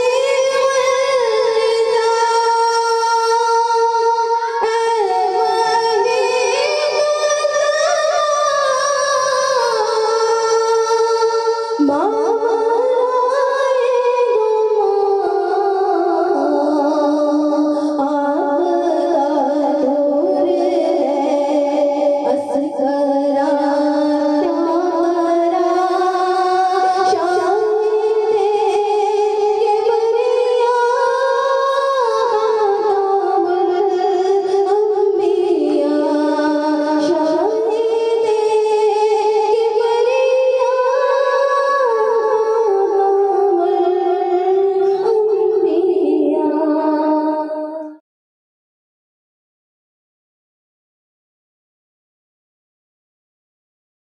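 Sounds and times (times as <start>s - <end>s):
woman singing slow melody: 0.0s - 48.0s.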